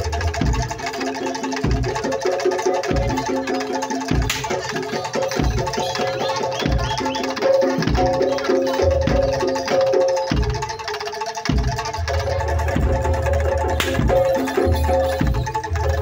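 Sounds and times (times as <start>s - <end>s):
deep drum beat: 0.0s - 10.8s, 11.5s - 16.0s
hand drum strokes: 0.0s - 16.0s
metal percussion ringing: 0.0s - 16.0s.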